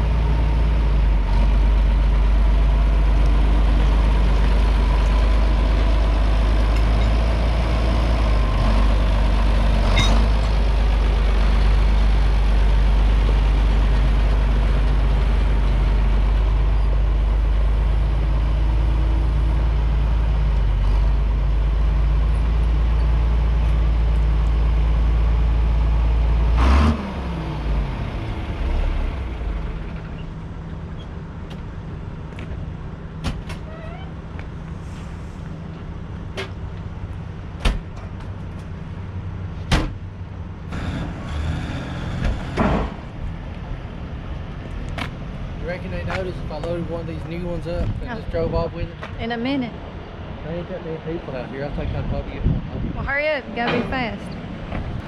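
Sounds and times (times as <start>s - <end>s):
truck engine droning: 0.0s - 52.1s.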